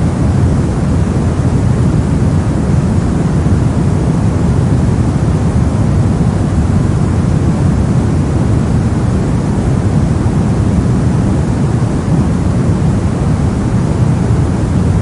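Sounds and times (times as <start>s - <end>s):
brown noise rumbling hiss: 0.0s - 15.0s.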